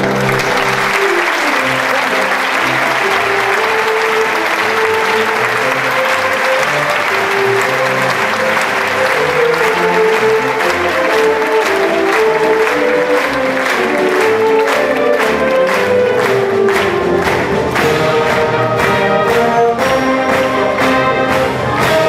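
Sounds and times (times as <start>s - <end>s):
audience applauding: 0.0s - 22.0s
concert band playing: 0.0s - 22.0s.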